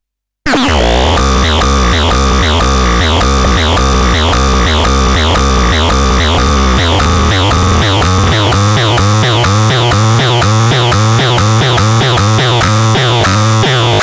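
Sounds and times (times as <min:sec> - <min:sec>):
looping synthesizer pattern: 0:00.5 - 0:14.0.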